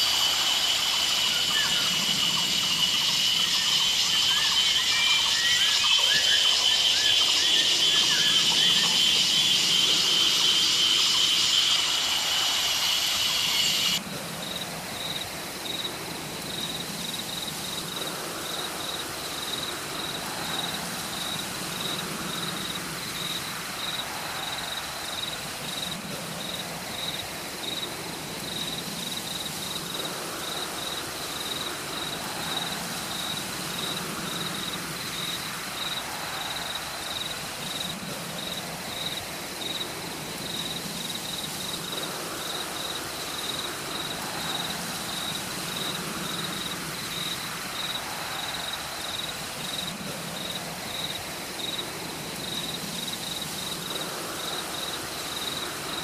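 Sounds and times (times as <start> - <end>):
forest background hiss: 0.0 - 56.0
insect chirping: 0.0 - 56.0.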